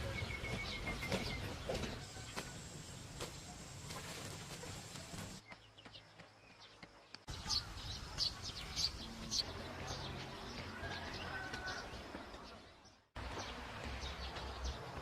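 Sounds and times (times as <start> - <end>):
birds chirping: 0.0 - 15.0
outdoor background: 0.0 - 15.0.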